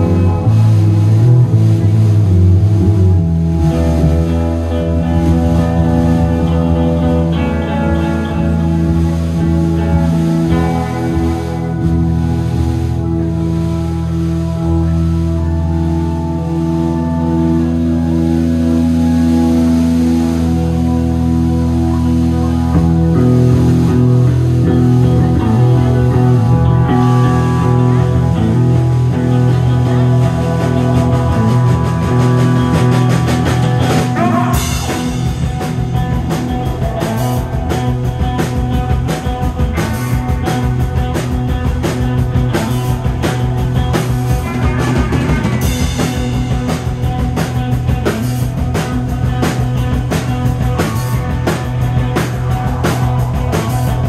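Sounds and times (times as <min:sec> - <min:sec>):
drum kit beat: 0:00.0 - 0:13.2, 0:22.6 - 0:54.0
garage rock band playing: 0:00.0 - 0:54.0.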